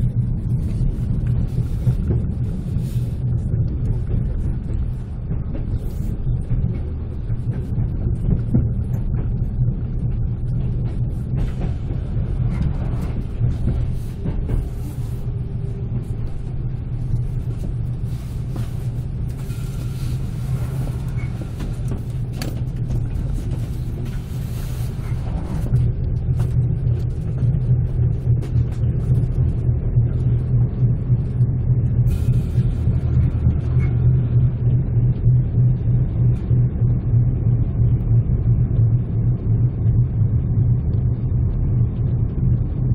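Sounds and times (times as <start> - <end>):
train rumbling along track: 0.0 - 42.9.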